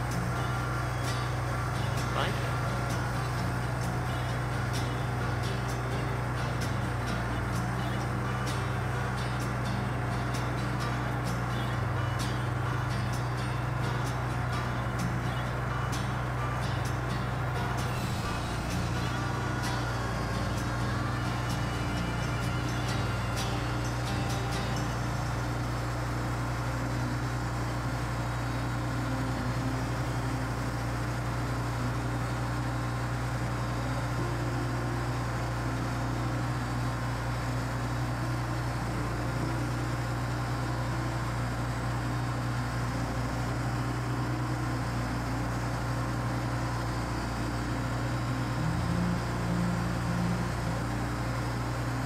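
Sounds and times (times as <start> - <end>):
band sawmill engine humming: 0.0 - 52.0.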